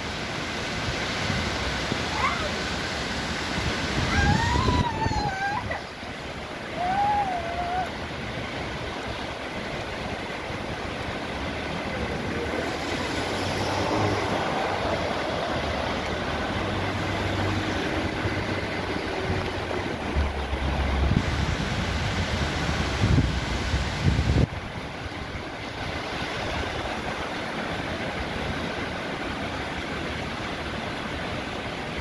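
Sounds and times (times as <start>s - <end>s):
heavy rain falling: 0.0s - 32.0s
wind rumbling on microphone: 0.0s - 32.0s.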